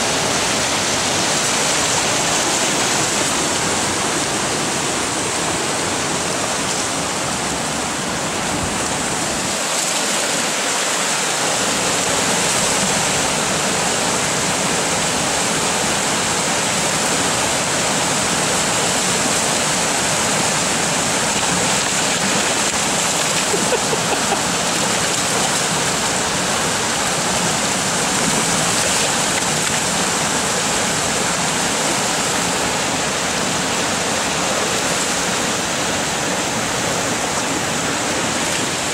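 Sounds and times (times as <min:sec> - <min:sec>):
water rushing over a weir: 0:00.0 - 0:38.9.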